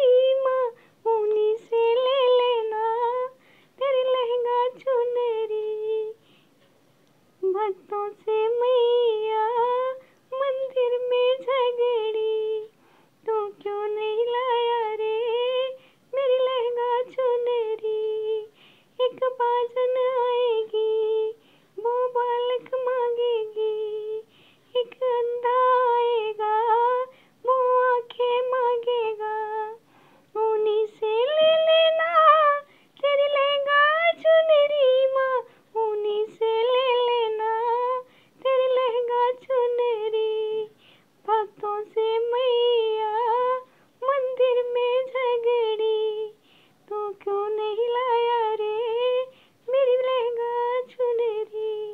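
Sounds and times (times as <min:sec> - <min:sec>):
woman singing unaccompanied: 0:00.0 - 0:06.3, 0:07.4 - 0:51.9.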